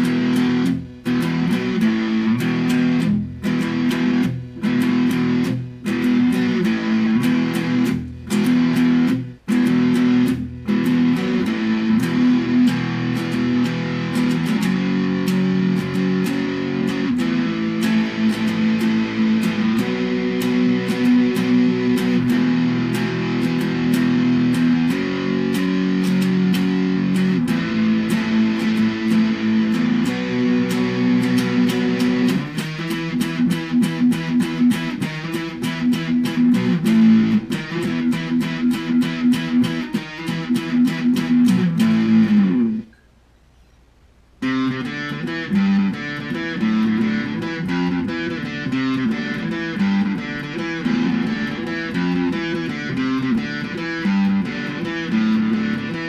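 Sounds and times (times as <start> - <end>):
electric guitar playing: 0.0 - 43.0, 44.4 - 56.0.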